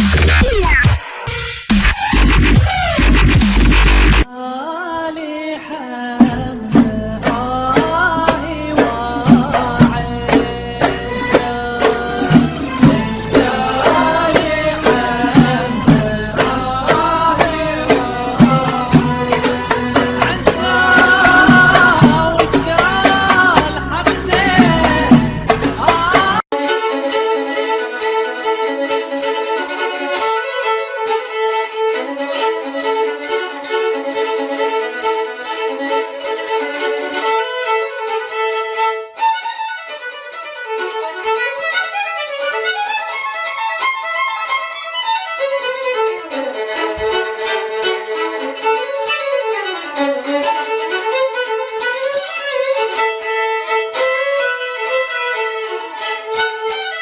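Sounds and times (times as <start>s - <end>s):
fiddle tune: 6.6s - 57.0s.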